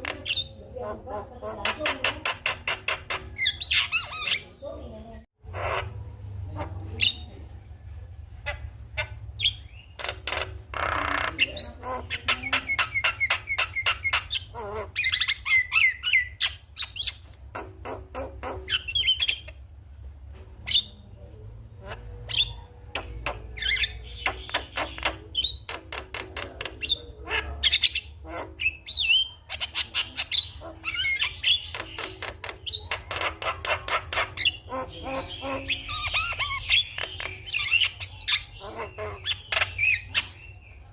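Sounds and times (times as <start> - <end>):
myna bird chattering: 0.0 - 7.5, 8.4 - 19.7, 20.6 - 40.9.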